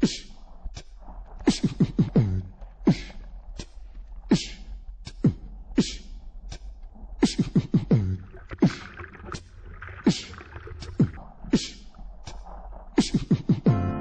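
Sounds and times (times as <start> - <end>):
beatboxing: 0.0 - 9.4, 10.0 - 14.0.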